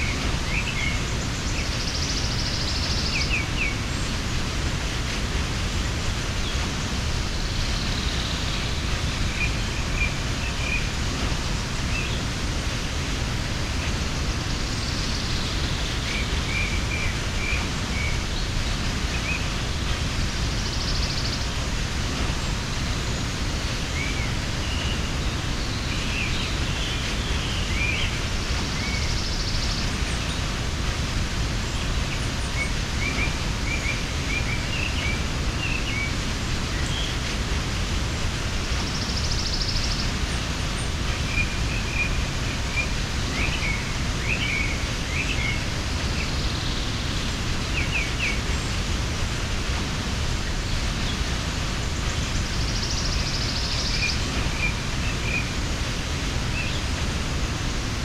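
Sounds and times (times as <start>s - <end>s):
small birds chirping: 0.0s - 58.0s
waterfall rushing: 0.0s - 58.0s.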